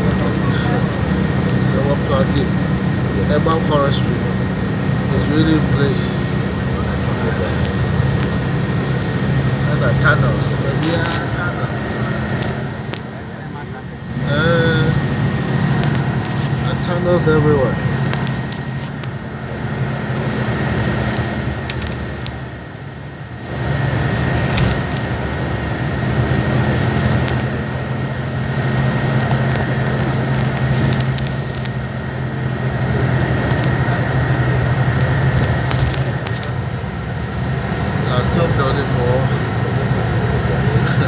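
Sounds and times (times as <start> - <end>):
bus engine drone: 0.0 - 41.0.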